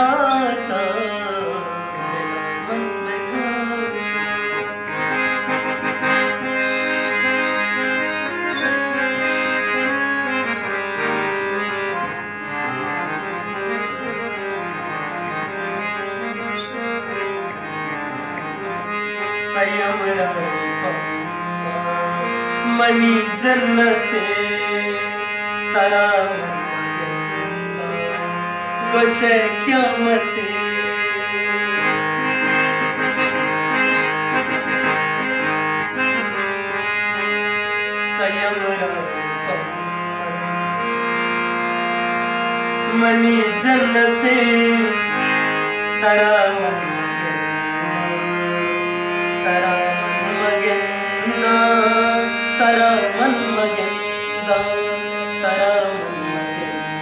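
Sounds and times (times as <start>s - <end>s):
harmonium playing over drone: 0.0s - 57.0s.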